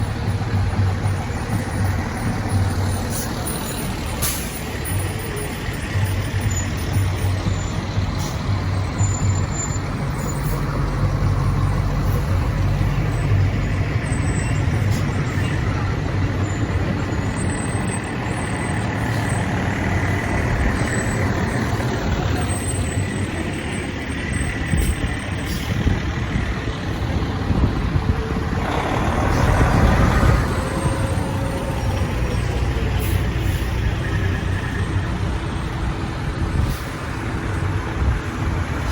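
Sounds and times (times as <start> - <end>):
large truck engine running: 0.0 - 38.9.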